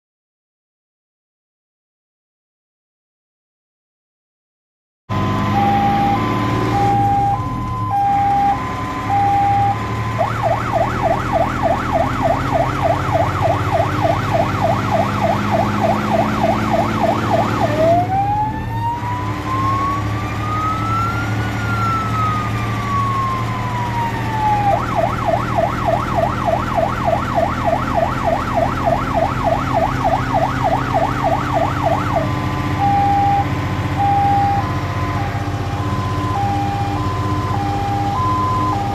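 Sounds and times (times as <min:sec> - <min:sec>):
diesel engine drone: 0:05.1 - 0:38.9
electronic fire engine siren: 0:05.1 - 0:38.9.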